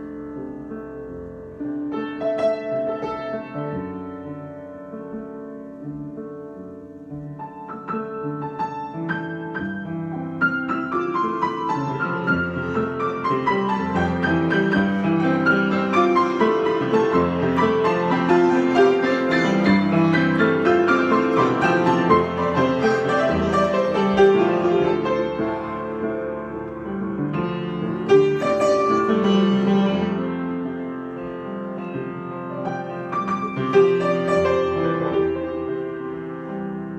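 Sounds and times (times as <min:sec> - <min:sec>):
solo piano: 0:00.0 - 0:36.9.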